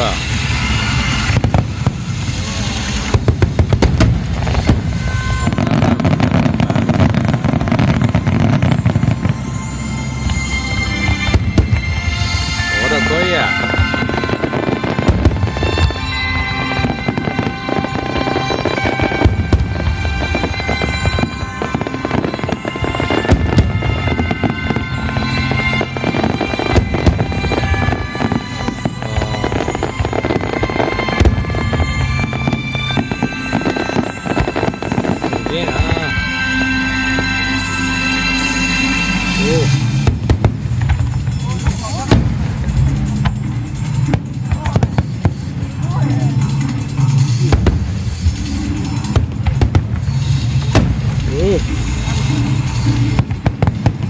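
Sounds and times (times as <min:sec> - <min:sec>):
fireworks bangs: 0:00.0 - 0:54.0
fireworks crackling: 0:00.0 - 0:54.0
low rumble: 0:00.0 - 0:54.0
music with long held notes: 0:00.0 - 0:54.0.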